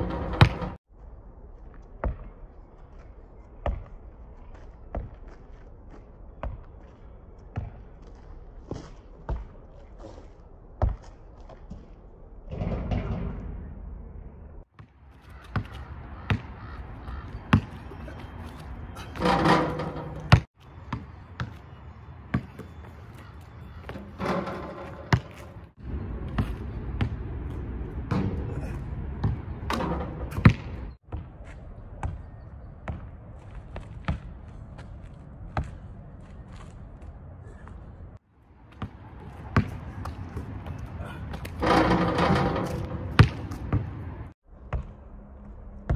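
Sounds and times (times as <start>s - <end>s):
basketball bouncing on asphalt: 0.0s - 0.8s, 1.6s - 2.4s, 3.6s - 11.9s, 14.7s - 28.3s, 29.2s - 36.7s, 38.6s - 45.1s.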